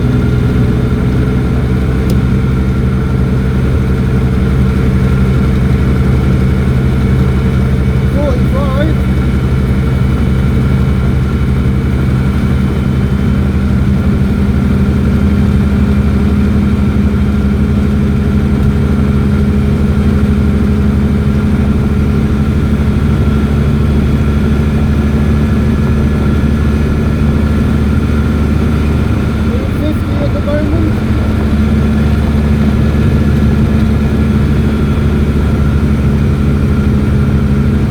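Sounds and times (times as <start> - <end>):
small car engine droning: 0.0 - 37.9.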